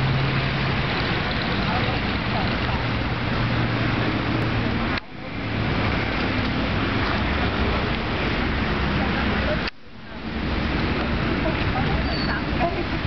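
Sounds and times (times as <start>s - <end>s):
road traffic rumble: 0.0s - 13.0s
faint voices: 1.0s - 13.0s.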